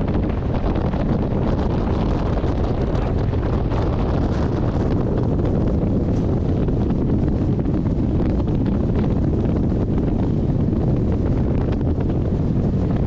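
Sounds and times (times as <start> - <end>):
strong wind on microphone: 0.0 - 13.0
train running noise: 0.0 - 13.0.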